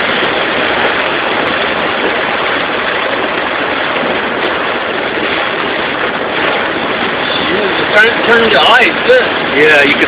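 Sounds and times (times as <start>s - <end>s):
heavy rain on a car: 0.0s - 10.0s
tyres running through water: 0.0s - 10.0s.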